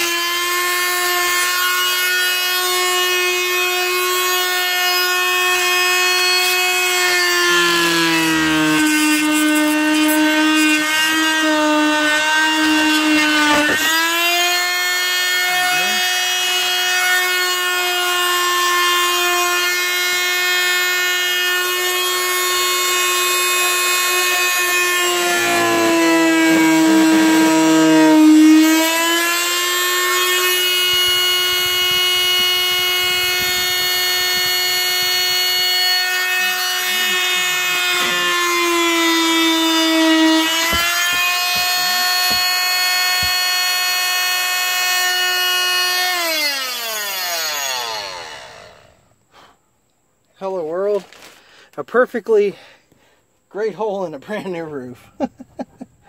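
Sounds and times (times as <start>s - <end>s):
power tool cutting roof panel: 0.0s - 49.0s.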